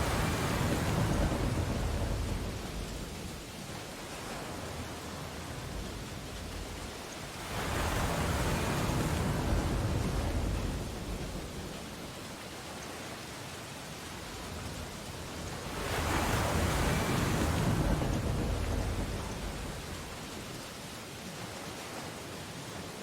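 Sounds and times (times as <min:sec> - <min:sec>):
ocean waves breaking: 0:00.0 - 0:22.8.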